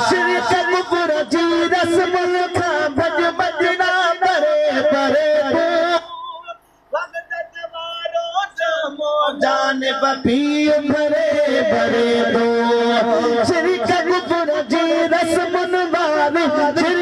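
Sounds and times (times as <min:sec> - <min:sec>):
man singing into a microphone: 0:00.0 - 0:06.6, 0:07.9 - 0:17.0.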